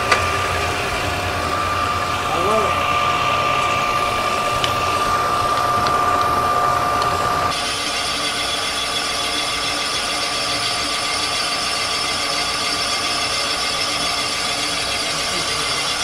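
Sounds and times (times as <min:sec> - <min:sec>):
boring bar whining: 0:00.0 - 0:16.0.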